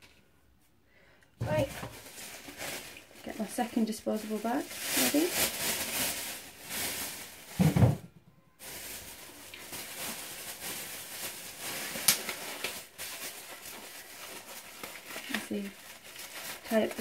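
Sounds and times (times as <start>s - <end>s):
plastic bags rustling: 1.4s - 17.0s.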